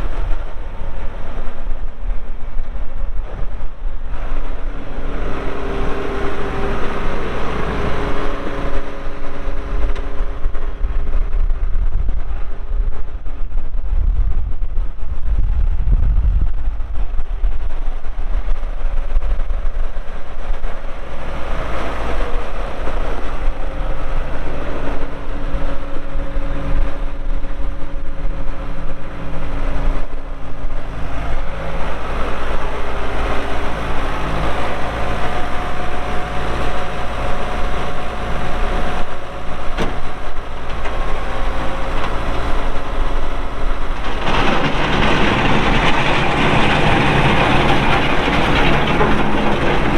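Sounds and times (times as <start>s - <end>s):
tractor diesel engine running: 0.0s - 13.0s, 17.8s - 49.9s.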